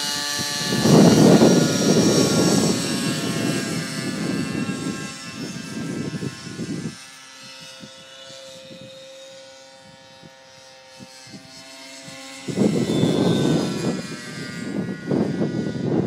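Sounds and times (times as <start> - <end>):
model helicopter whine: 0.0 - 16.0.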